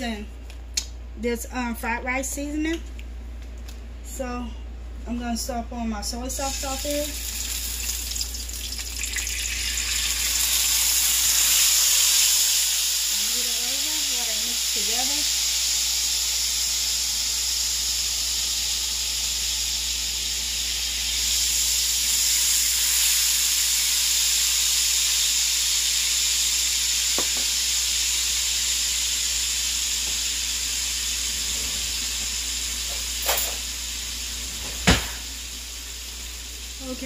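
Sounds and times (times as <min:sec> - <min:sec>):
sauce sizzling in hot oil: 0:06.3 - 0:37.0.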